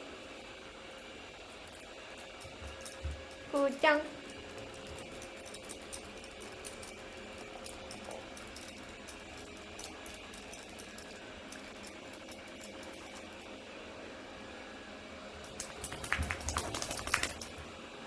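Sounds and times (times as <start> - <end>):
dog collar tag and leash jingling: 1.5 - 13.5, 15.4 - 17.8.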